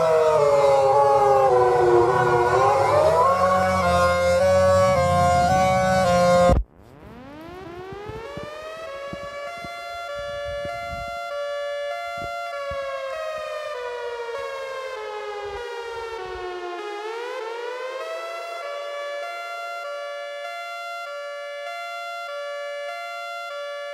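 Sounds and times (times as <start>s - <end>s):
tornado siren wailing: 0.0s - 23.9s.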